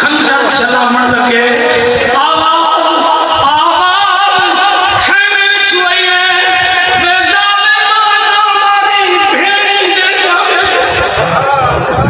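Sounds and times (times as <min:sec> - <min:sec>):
man singing a lament: 0:00.0 - 0:11.2.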